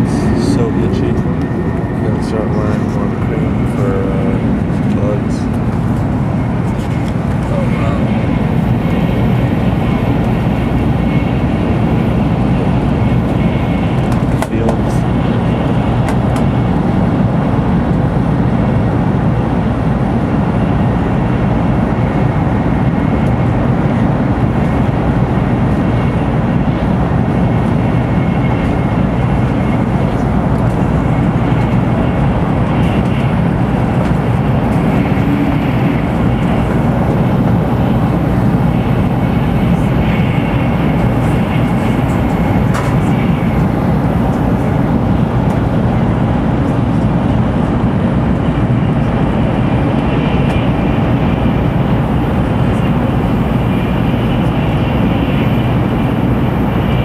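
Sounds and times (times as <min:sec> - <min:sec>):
train running noise from inside: 0:00.0 - 0:57.0.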